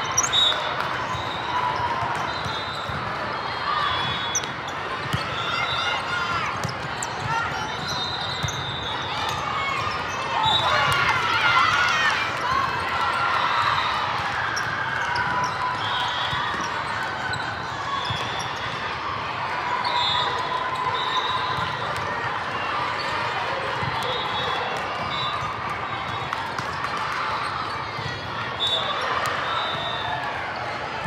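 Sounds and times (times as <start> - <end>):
many voices chattering: 0.0 - 31.0.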